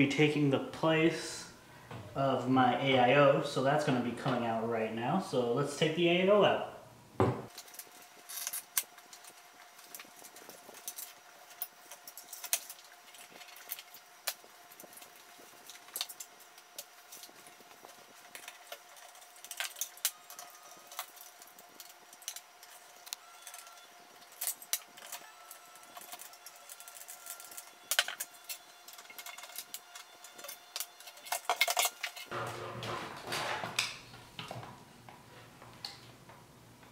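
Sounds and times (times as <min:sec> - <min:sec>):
faint steady hum: 0:00.0 - 0:36.9.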